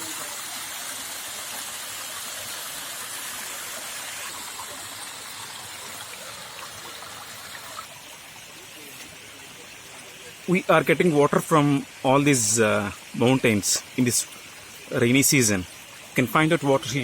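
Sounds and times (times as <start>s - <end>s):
water rushing down a stream: 0.0s - 17.0s.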